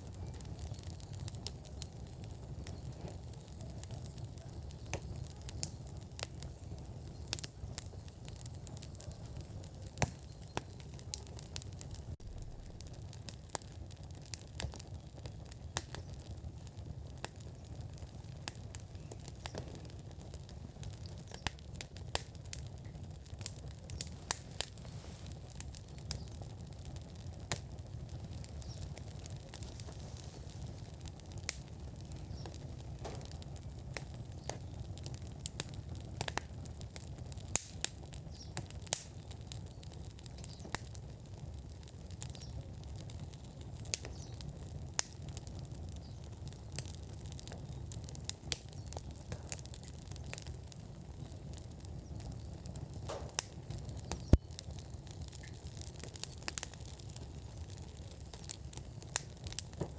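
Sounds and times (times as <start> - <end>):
fire low rumble: 0.0 - 59.9
wood fire crackling and popping: 0.0 - 59.9.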